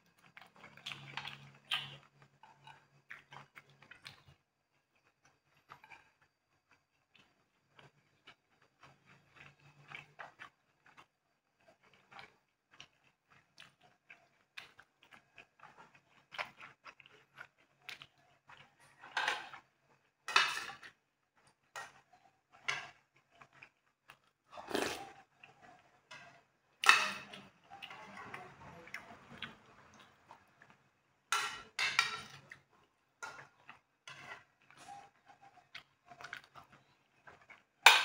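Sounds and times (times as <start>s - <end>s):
person chewing: 0.2s - 20.2s, 20.8s - 28.0s, 32.3s - 37.8s.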